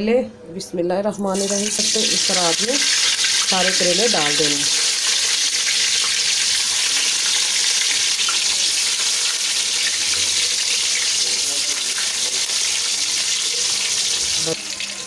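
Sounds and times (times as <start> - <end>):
oil sizzling in a wok: 1.3 - 15.0
oil bubbling: 1.4 - 15.0.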